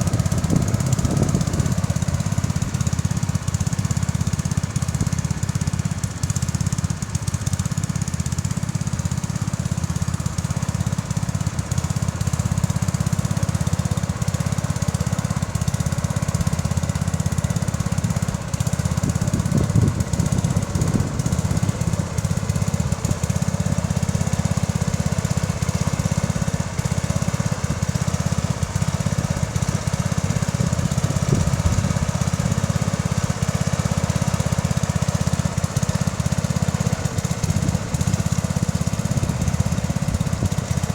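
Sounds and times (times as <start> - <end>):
garden tractor engine rumbling: 0.0 - 40.9.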